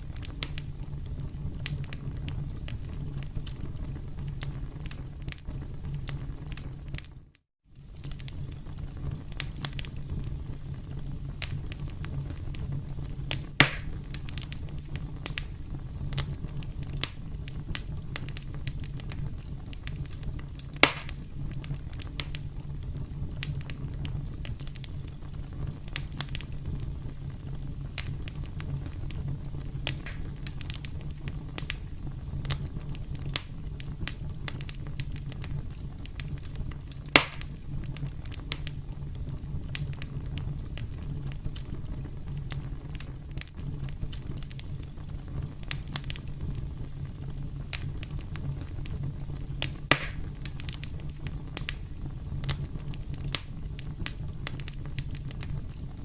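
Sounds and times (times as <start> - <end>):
campfire crackling: 0.0 - 56.0
loud fire pops: 0.0 - 56.0.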